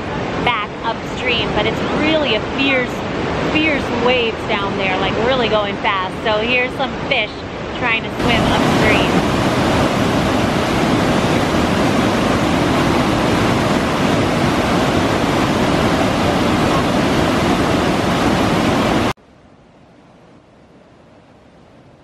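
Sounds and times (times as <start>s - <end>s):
whitewater rushing: 0.0s - 19.2s.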